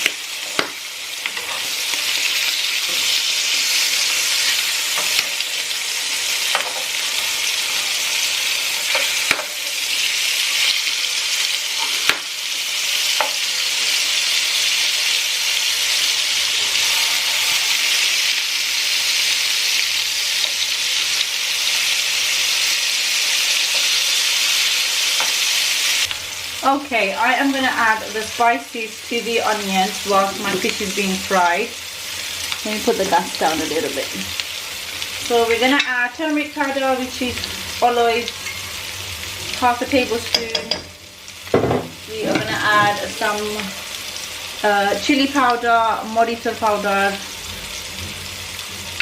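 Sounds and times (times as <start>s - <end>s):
fish sizzling in hot oil: 0.0s - 49.0s.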